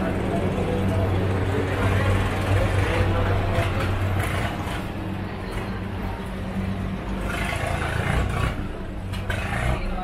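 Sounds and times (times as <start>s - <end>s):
traffic hubbub: 0.0s - 10.0s
vehicle engine running: 0.0s - 10.0s.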